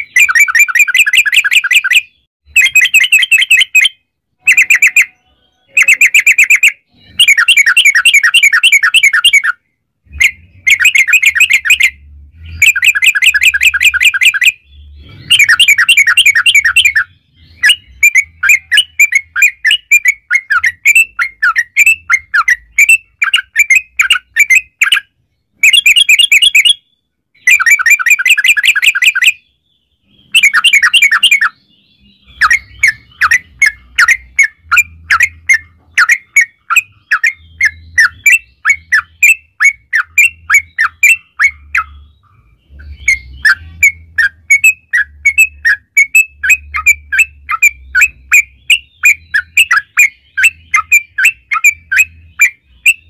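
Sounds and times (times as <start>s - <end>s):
bird singing rattling chirps: 0.0s - 53.0s.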